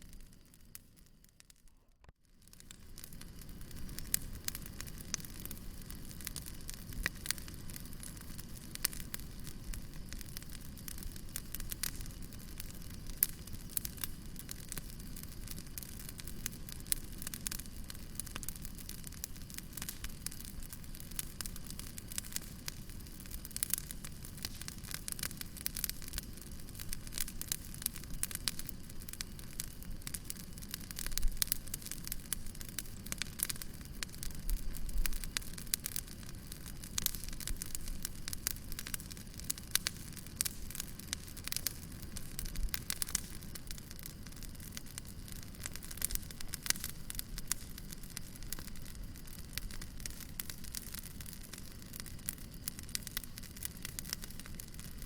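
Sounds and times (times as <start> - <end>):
low rumble and hiss: 0.0 - 55.0
wood fire crackling: 0.0 - 55.0.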